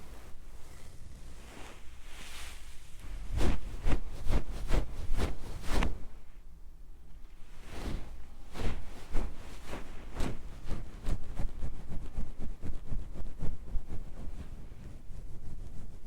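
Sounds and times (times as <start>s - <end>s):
rubbing strokes on microphone: 0.0s - 6.4s, 7.3s - 16.0s.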